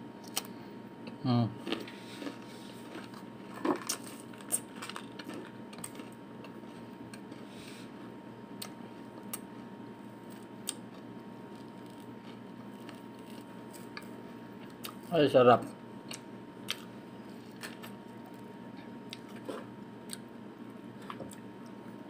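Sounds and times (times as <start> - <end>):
chewing fruit: 0.2 - 7.5, 8.6 - 15.1, 16.0 - 16.9, 17.5 - 21.8.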